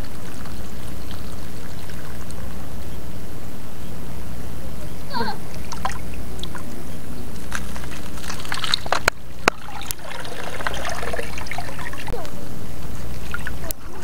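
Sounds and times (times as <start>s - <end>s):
seawater sloshing and trickling: 0.0s - 3.0s, 4.9s - 14.0s.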